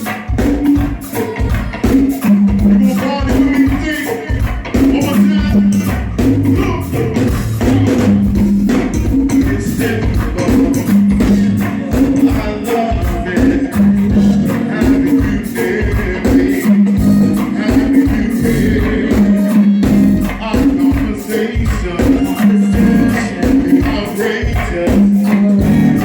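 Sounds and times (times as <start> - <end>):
percussion groove: 0.0 - 26.0
repeating bass line: 1.2 - 26.0.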